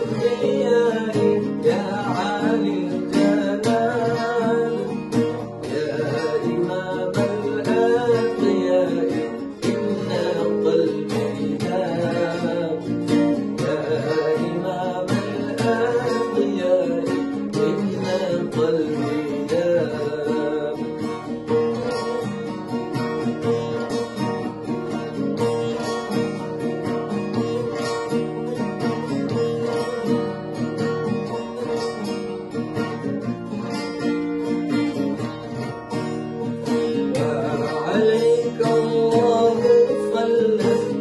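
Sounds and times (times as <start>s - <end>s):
plucked lute notes: 0.0s - 41.0s
strummed acoustic guitar: 0.0s - 41.0s.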